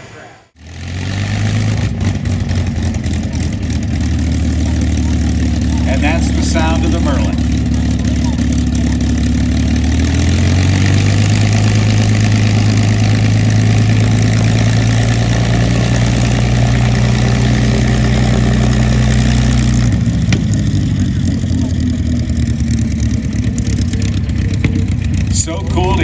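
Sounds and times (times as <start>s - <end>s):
piston aero engine running: 0.0s - 26.0s.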